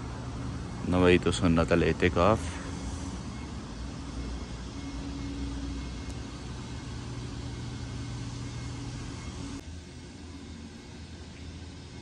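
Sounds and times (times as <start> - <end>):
ventilation hum and air rush: 0.0 - 12.0.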